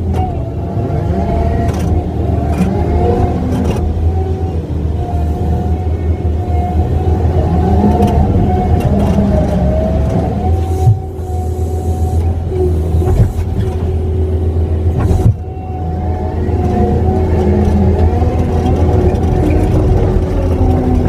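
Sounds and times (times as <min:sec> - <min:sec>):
skid steer diesel engine running: 0:00.0 - 0:21.0.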